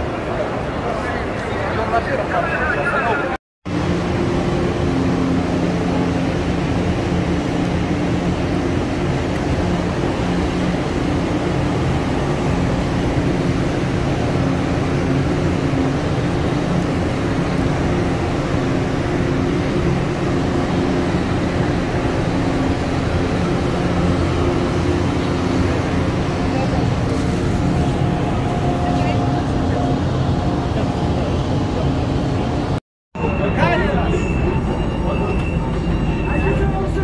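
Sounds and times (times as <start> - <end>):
train rumbling on track: 0.0 - 37.0
low hum: 3.7 - 36.6.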